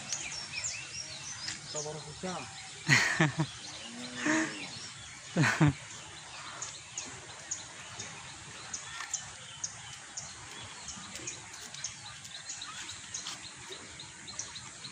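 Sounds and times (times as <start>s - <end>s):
birds chirping: 0.0s - 14.9s
outdoor background noise: 0.0s - 14.9s.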